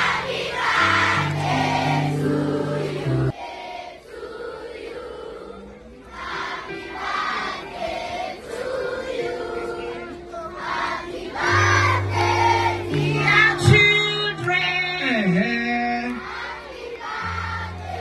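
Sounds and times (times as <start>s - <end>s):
children singing with music: 0.0s - 18.0s.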